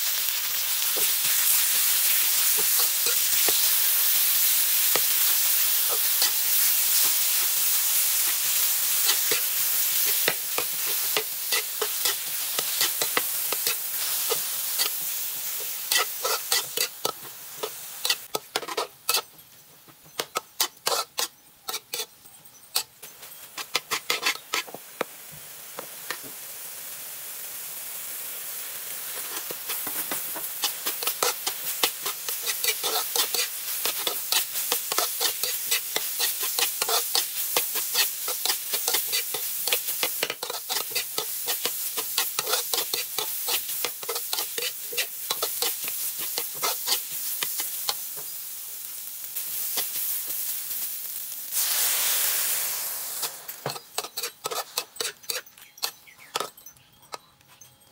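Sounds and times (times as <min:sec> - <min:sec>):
meat sizzling: 0:00.0 - 0:19.3, 0:20.1 - 0:22.2, 0:22.8 - 0:56.6
metal spatula scraping a wok: 0:00.5 - 0:19.4, 0:20.1 - 0:24.8, 0:29.1 - 0:48.1, 0:53.2 - 0:57.3.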